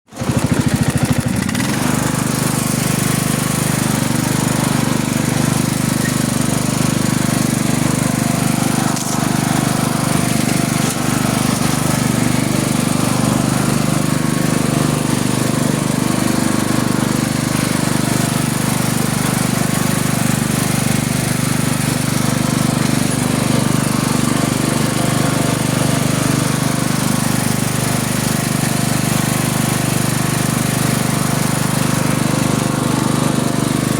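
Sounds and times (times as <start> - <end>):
vehicle engine running steadily: 0.1 - 33.9.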